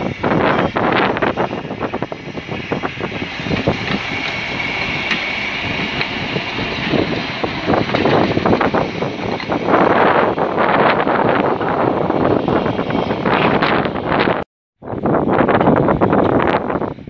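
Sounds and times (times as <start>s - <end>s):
high squeal of wheels: 0.0s - 14.3s
wheels clicking over rails: 0.0s - 14.4s
diesel locomotive engine running: 0.0s - 17.0s.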